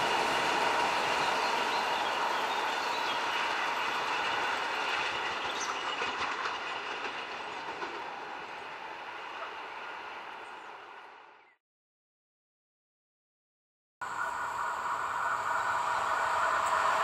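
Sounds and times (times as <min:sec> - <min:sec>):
train wheels on rails: 0:00.0 - 0:11.4, 0:14.0 - 0:17.0.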